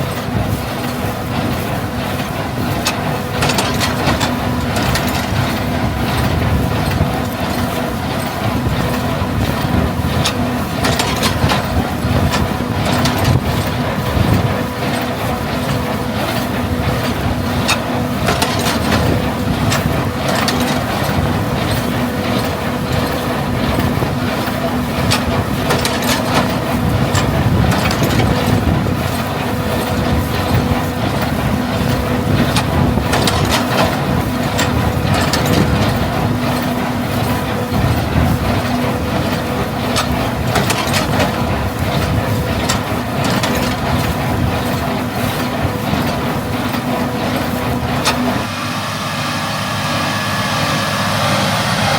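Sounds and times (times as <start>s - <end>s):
baler mechanical clacks and knocks: 0.0s - 48.8s
tractor engine hum: 0.0s - 51.9s.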